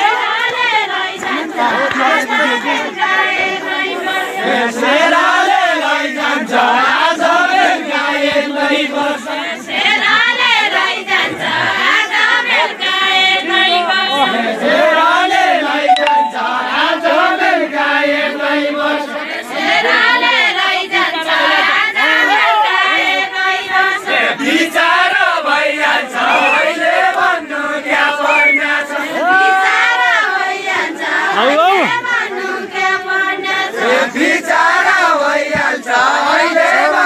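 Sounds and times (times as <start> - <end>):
group singing folk song in chorus: 0.0 - 37.0.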